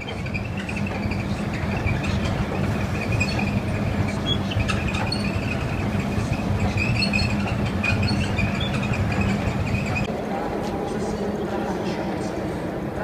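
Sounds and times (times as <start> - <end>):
escalator machine hum and whine: 0.0 - 13.0.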